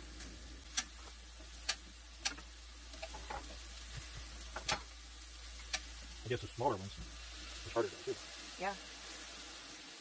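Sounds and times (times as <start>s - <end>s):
meat sizzling: 0.0s - 10.0s.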